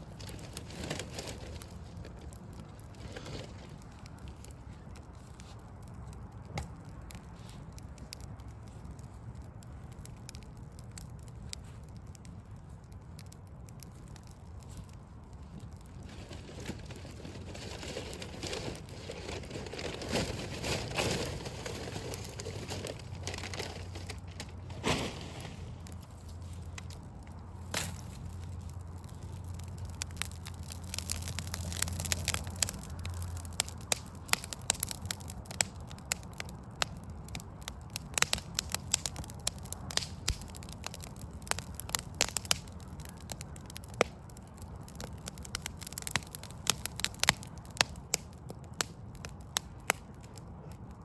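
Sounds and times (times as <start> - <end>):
log fire crackling: 0.0 - 51.0
low steady rumble: 0.0 - 51.0
sharp pops of fire: 0.2 - 51.0.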